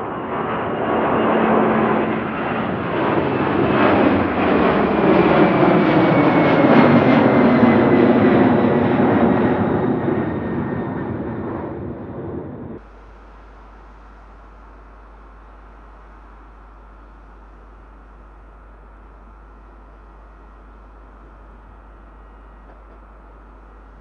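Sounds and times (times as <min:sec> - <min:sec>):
jet engines passing: 0:00.0 - 0:24.0.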